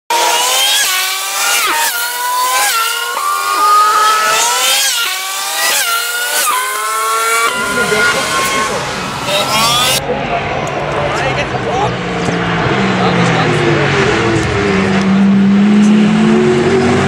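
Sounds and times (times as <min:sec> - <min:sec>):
race car engines revving: 0:00.1 - 0:17.0.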